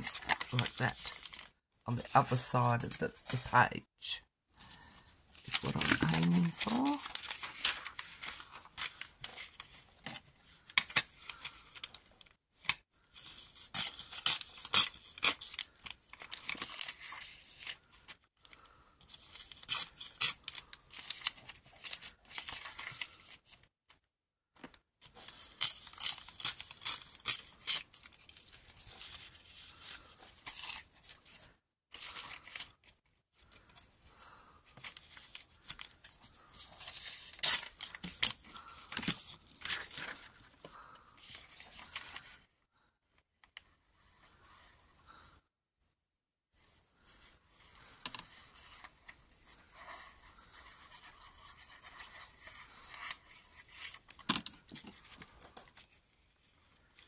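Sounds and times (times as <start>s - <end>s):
paper rustling and crinkling: 0.0s - 1.6s, 4.7s - 12.3s, 13.1s - 23.7s, 24.6s - 42.4s, 47.1s - 57.0s.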